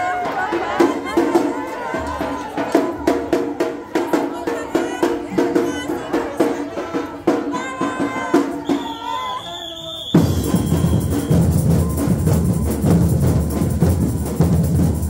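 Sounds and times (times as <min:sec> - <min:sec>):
samba drums playing: 0:00.0 - 0:09.5, 0:10.1 - 0:15.0
crowd voices: 0:00.0 - 0:14.9.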